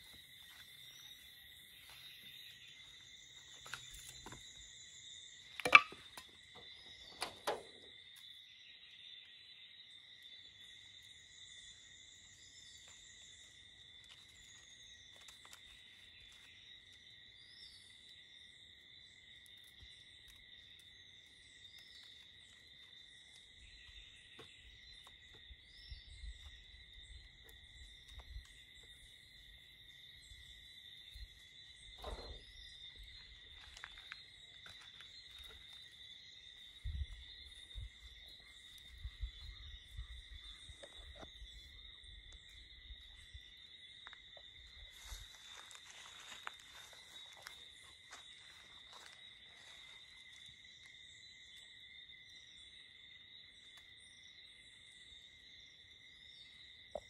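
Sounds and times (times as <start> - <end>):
insect drone: 0.0 - 57.0.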